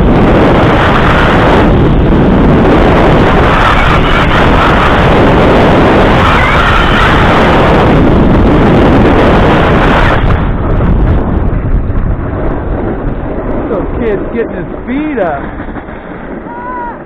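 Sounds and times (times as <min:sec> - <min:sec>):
wind buffeting a microphone: 0:00.0 - 0:17.0.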